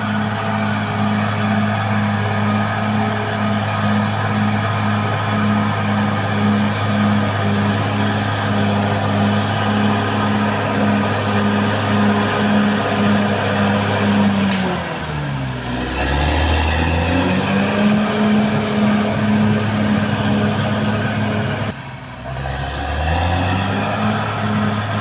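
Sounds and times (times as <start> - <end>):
bulldozer diesel engine working: 0.0 - 25.0.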